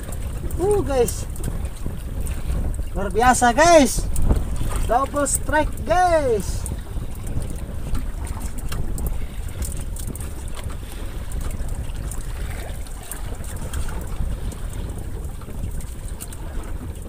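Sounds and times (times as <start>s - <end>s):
water washing: 0.0s - 17.0s
wind buffeting the microphone: 0.0s - 17.0s.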